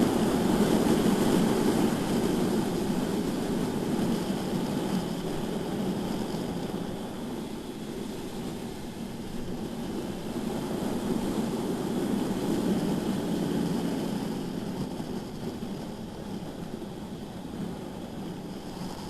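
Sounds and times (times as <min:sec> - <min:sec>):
wind rushing on microphone: 0:00.0 - 0:19.0.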